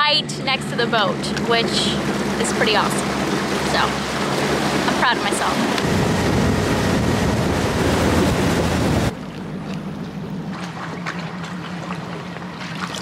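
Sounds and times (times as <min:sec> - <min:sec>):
outboard motor running at speed: 0:00.0 - 0:13.0
steady low hum: 0:00.0 - 0:13.0
wind and water rushing: 0:00.4 - 0:13.0.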